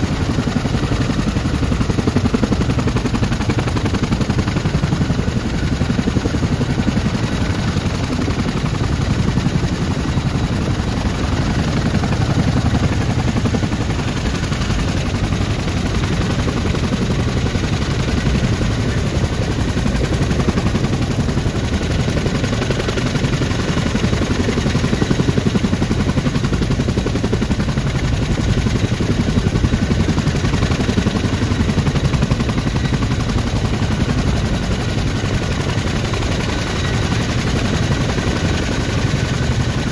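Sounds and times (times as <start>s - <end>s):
helicopter rotor blades chopping: 0.0s - 39.9s.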